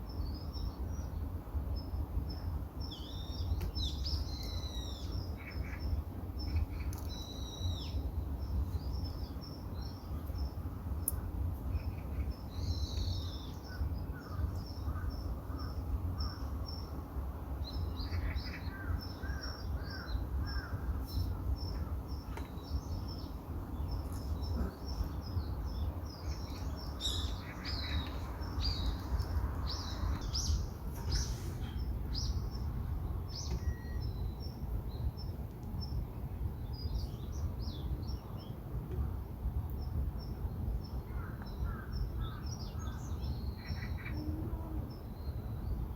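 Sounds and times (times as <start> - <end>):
birds chirping: 0.0 - 39.1
steady low rumble: 0.0 - 45.9.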